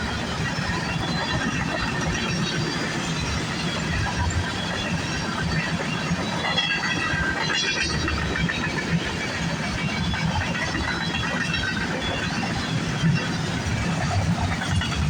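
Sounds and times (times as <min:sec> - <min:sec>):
train wheels rumbling on rails: 0:00.0 - 0:15.0
wheels squealing: 0:00.0 - 0:15.0.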